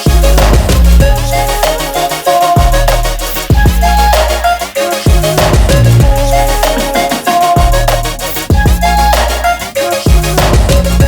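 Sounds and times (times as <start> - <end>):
pop music with heavy bass: 0.0 - 11.0.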